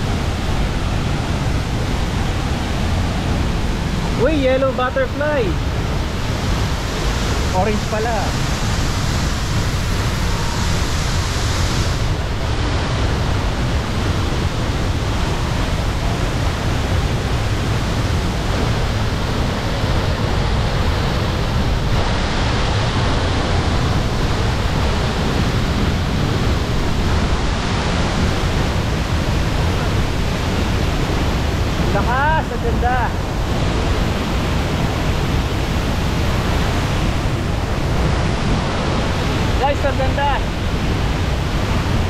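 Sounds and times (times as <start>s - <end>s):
waterfall rushing into pool: 0.0s - 42.0s.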